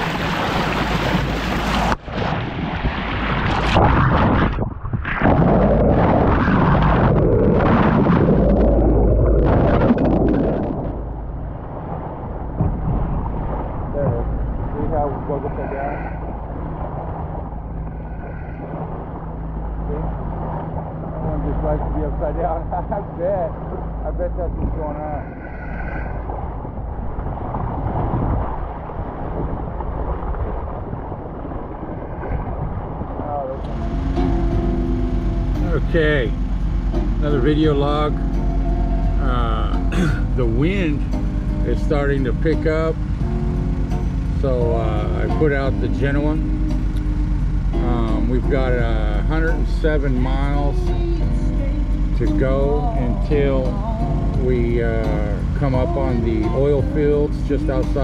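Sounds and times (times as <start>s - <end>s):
boat engine humming: 0.0s - 3.8s, 4.6s - 58.0s
water churning and bubbling: 0.0s - 58.0s
wind noise on microphone: 0.0s - 58.0s.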